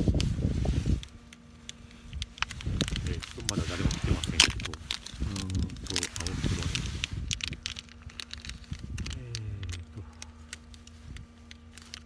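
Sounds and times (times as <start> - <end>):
wind rumbling on microphone: 0.0 - 1.3, 2.0 - 11.4
steady low hum: 0.0 - 12.0.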